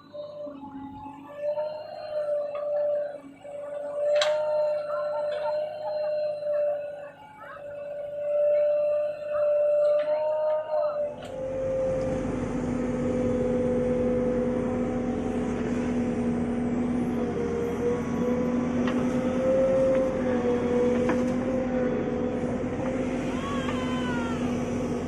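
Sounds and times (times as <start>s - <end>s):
backhoe diesel engine running: 0.0s - 25.0s.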